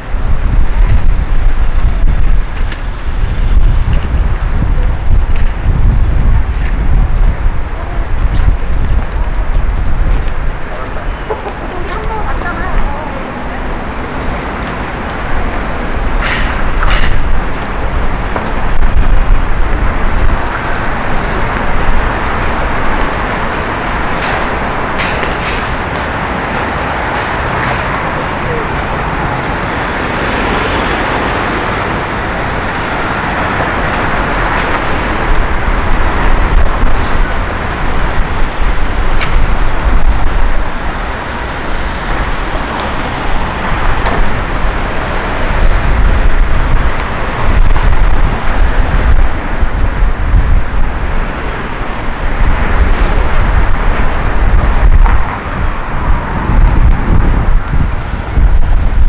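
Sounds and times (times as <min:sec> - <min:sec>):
road traffic: 0:00.0 - 0:59.0
wind buffeting microphone: 0:00.0 - 0:59.0.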